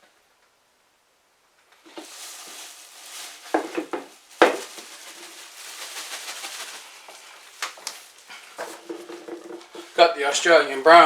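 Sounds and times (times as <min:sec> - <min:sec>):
plastic bag rustling: 0:01.8 - 0:11.0.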